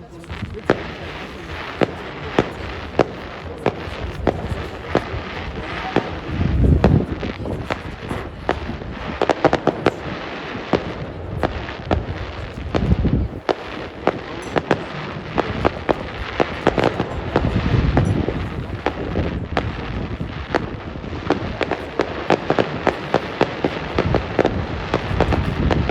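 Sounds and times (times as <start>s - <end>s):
deep fireworks booms: 0.0s - 25.9s
fireworks bangs and crackles: 0.0s - 25.9s.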